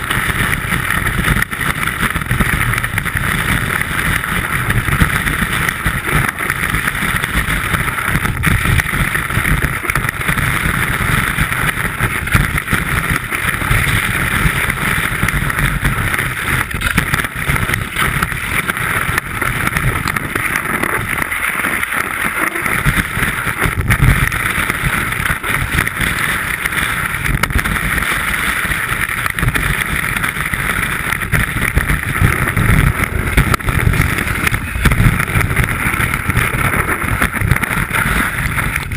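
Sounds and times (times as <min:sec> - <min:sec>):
skis hissing over snow: 0:00.0 - 0:38.9
steady rumble: 0:00.0 - 0:38.9
wind rushing over camera: 0:00.0 - 0:38.9.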